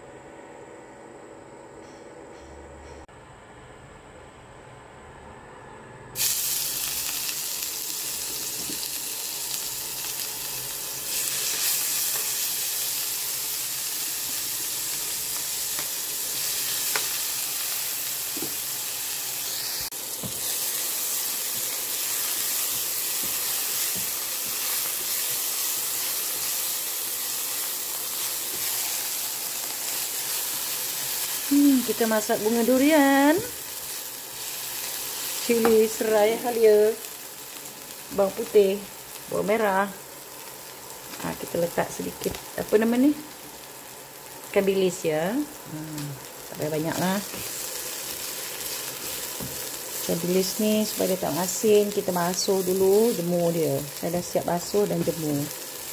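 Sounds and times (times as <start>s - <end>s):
food sizzling in hot oil: 6.2s - 55.9s.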